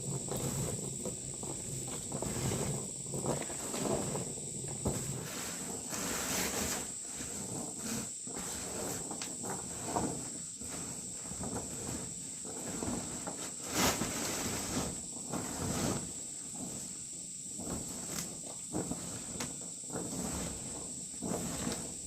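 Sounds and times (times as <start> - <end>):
insects droning: 0.0 - 22.0
scrape: 0.0 - 22.0.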